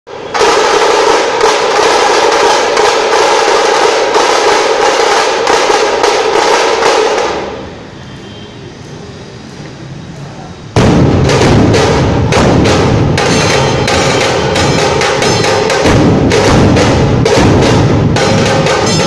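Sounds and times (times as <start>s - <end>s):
rapid sharp drum strokes: 0.1s - 7.8s, 10.8s - 19.0s.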